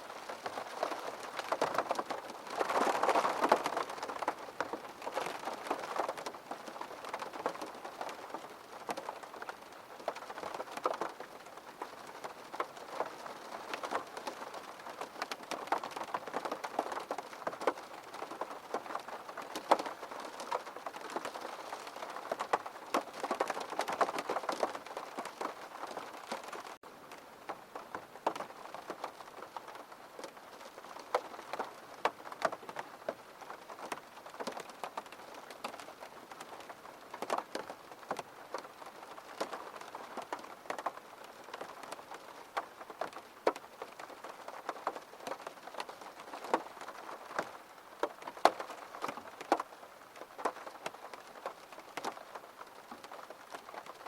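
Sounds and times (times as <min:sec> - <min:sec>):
raindrops ticking on a surface: 0:00.0 - 0:54.0
steady rain hiss: 0:00.0 - 0:54.0.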